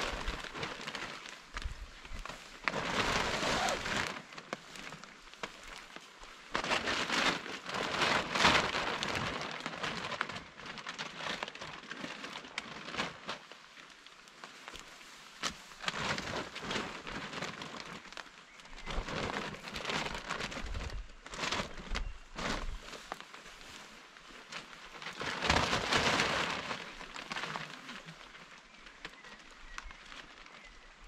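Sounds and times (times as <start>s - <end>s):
plastic tarp rustling: 0.0s - 31.0s
rain pattering: 0.0s - 31.0s.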